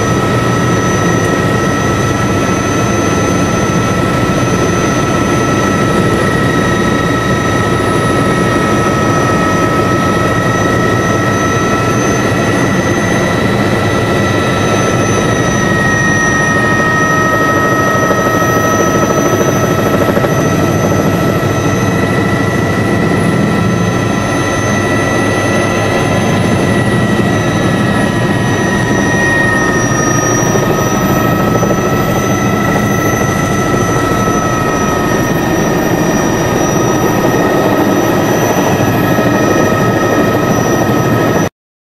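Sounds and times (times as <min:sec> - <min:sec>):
high whining tones: 0:00.0 - 0:41.4
helicopter engine and rotor rumble: 0:00.0 - 0:41.5.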